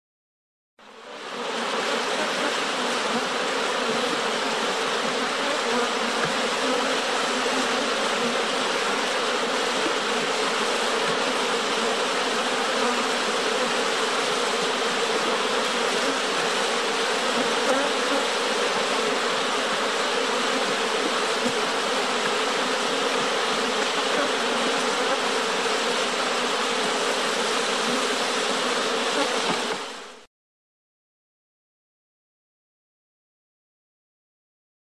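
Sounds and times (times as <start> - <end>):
bee buzzing: 1.0 - 30.3.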